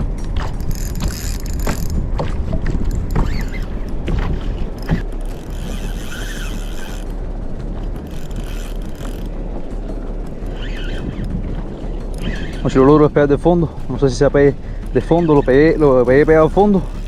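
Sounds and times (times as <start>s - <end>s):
water slapping against hull: 0.0s - 17.0s
wind buffeting microphone: 0.0s - 17.0s.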